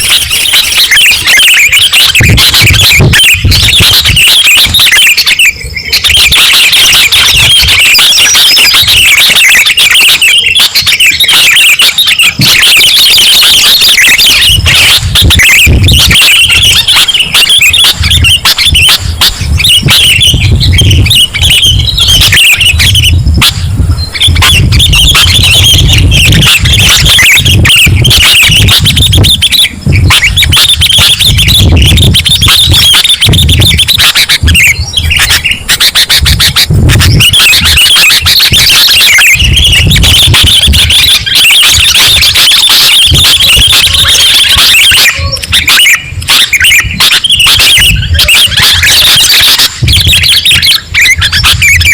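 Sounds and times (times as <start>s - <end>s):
bird calling and chattering: 0.0s - 51.9s.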